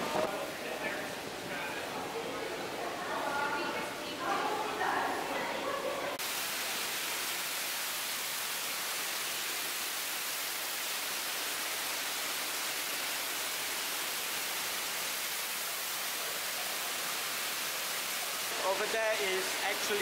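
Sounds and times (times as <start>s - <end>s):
rushing waterfall: 0.0s - 20.0s.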